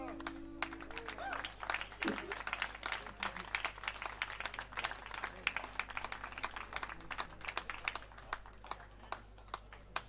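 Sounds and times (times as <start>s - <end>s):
audience clapping: 0.0s - 10.0s.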